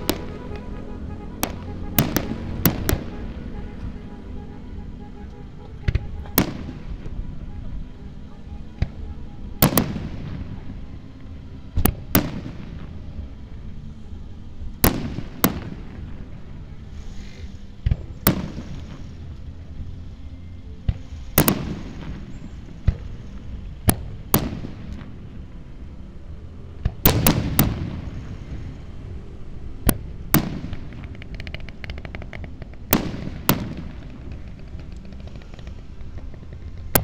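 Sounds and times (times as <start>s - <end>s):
fireworks bursting with echo: 0.0s - 13.4s, 14.8s - 19.4s, 20.8s - 25.4s, 26.8s - 28.8s, 29.8s - 37.0s
fireworks crackling: 0.0s - 13.5s, 14.8s - 19.6s, 20.9s - 25.4s, 29.8s - 37.0s.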